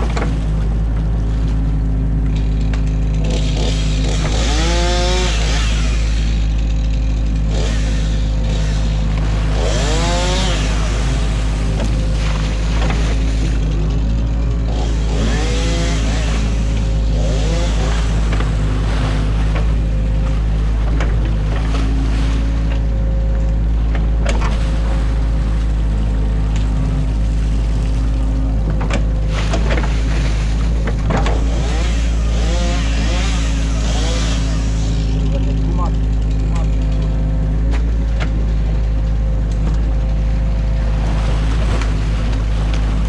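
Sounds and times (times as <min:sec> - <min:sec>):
diesel engine running: 0:00.0 - 0:43.0
hydraulic whines: 0:02.2 - 0:38.4.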